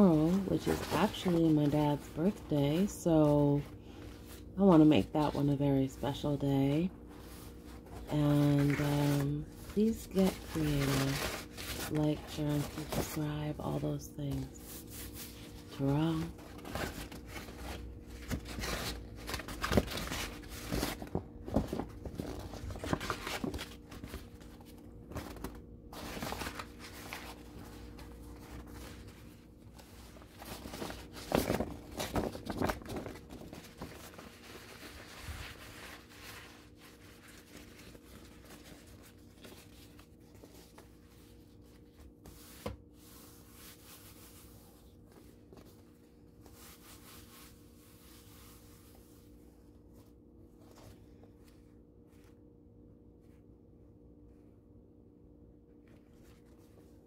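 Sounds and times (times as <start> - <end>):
paper rustling and crinkling: 0.0 - 52.5, 55.8 - 57.0.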